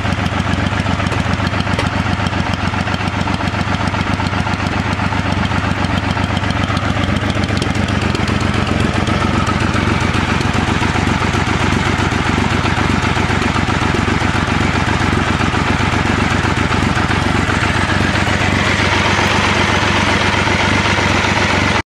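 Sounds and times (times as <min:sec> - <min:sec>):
motorcycle engine idling: 0:00.0 - 0:21.8.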